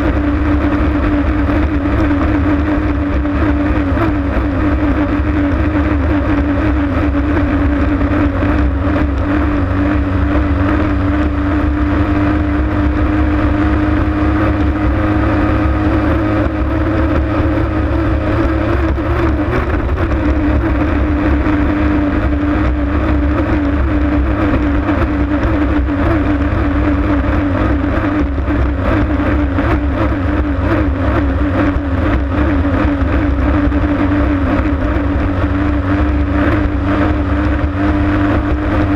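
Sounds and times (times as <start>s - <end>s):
boat engine droning: 0.0s - 38.9s
wind: 0.0s - 38.9s.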